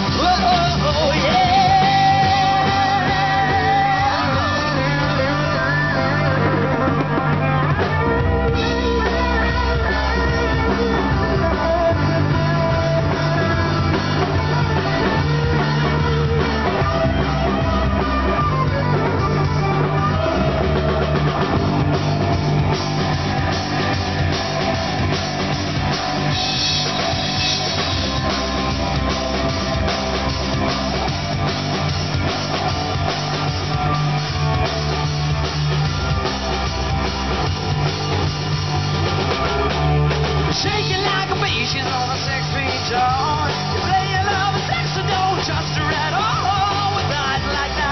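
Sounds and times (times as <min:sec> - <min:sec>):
drum kit: 0:00.0 - 0:47.9
electric guitars: 0:00.0 - 0:47.9.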